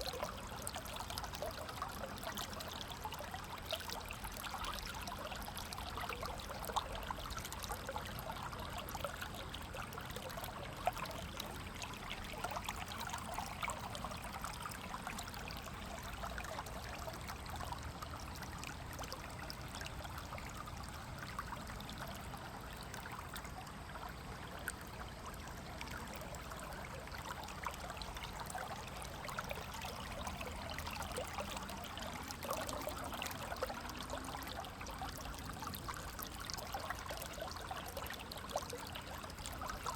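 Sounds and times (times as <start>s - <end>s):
river water trickling over stones: 0.0s - 39.9s.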